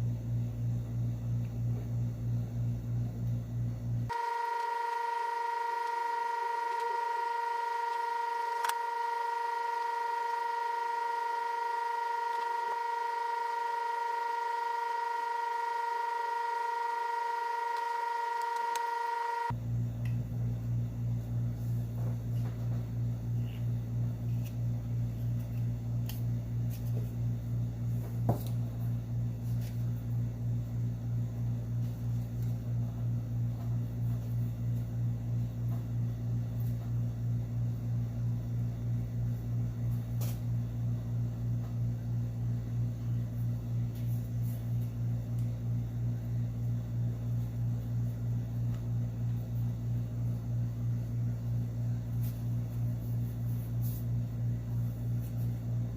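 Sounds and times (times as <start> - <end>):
pulsing electrical hum: 0.0 - 55.9.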